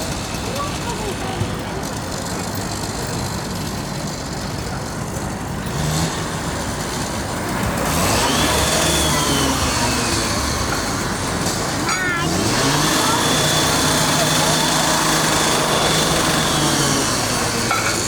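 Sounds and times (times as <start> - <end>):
city street noise: 0.0 - 18.0
vehicle engine running: 0.0 - 18.0.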